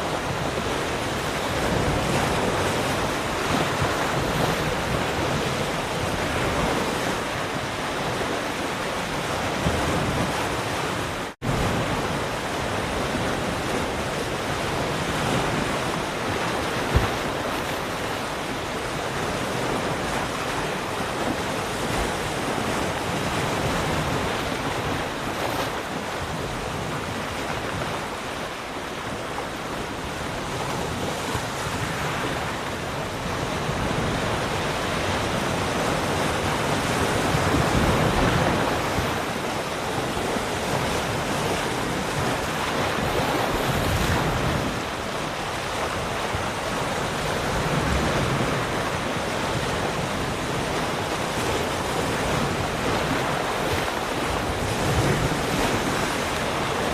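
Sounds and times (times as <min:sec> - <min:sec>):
ocean waves breaking on shore: 0:00.0 - 0:56.9
wind noise on microphone: 0:00.0 - 0:56.9.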